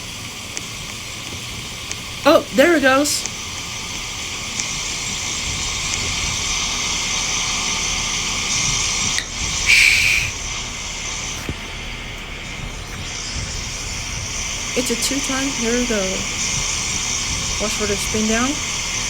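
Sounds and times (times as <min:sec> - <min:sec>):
heat pump hissing: 0:00.0 - 0:19.0.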